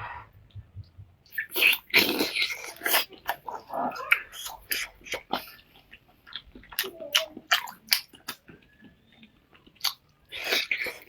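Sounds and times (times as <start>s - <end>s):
person chewing meat: 1.3s - 11.0s.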